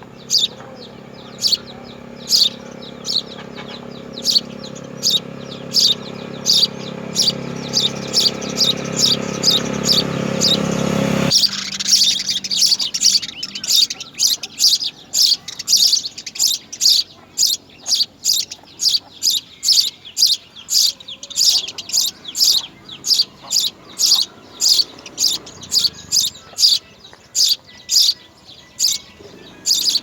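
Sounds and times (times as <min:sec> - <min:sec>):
baby birds chirping: 0:00.0 - 0:30.0.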